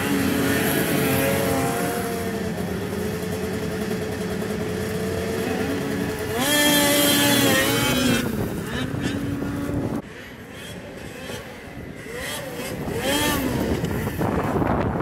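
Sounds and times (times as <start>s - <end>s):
snowmobile engines idling and blipping: 0.0s - 15.0s.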